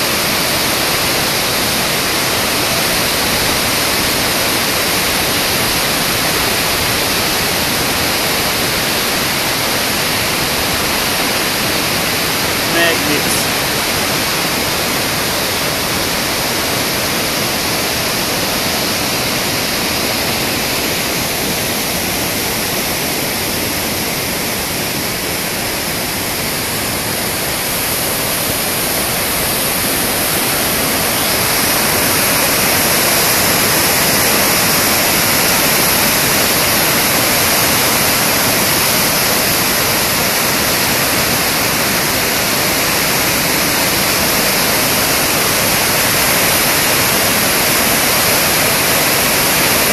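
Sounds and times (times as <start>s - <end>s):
floodwater rushing through rapids: 0.0s - 49.9s.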